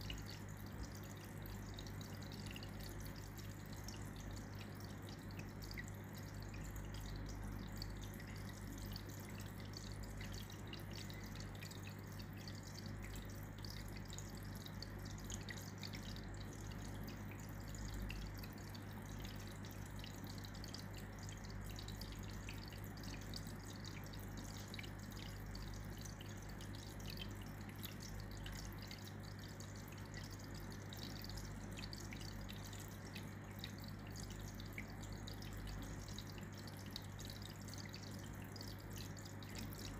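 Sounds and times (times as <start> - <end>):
water trickling into tank: 0.0 - 39.9.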